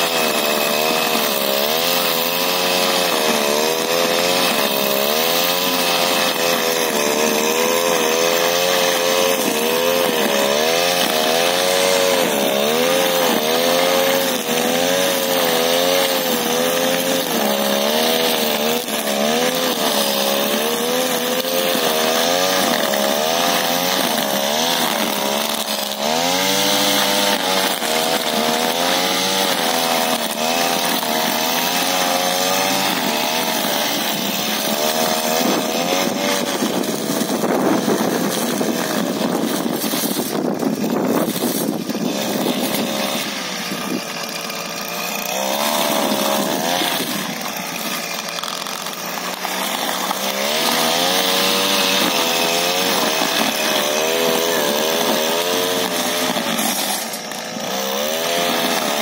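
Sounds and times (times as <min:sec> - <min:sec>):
brush cutter engine revving: 0:00.0 - 0:59.0.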